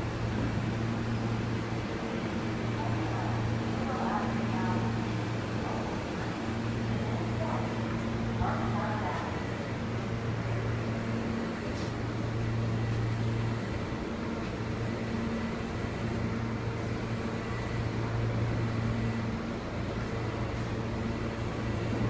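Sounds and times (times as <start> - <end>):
higher intermittent hum: 0.0 - 22.0
subway train hum and rumble: 0.0 - 22.0.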